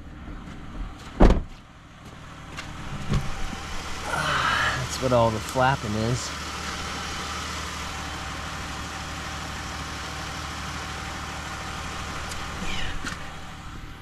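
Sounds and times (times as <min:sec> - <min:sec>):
van engine running: 0:00.0 - 0:14.0.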